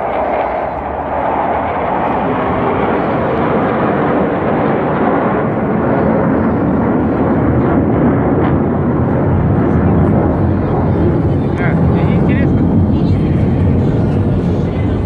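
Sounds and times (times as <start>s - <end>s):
fighter jets flying past: 0.0s - 15.0s.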